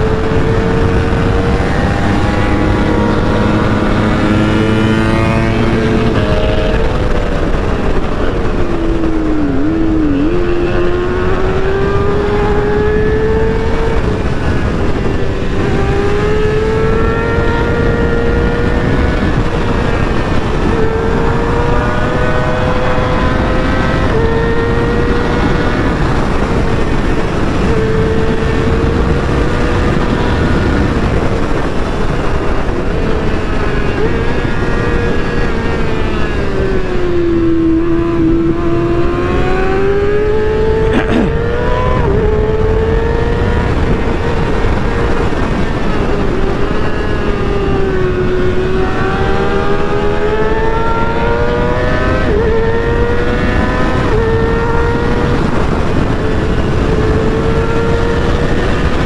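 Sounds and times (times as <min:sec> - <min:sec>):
motorcycle engine at high speed: 0:00.0 - 0:59.0
rush of wind: 0:00.0 - 0:59.0.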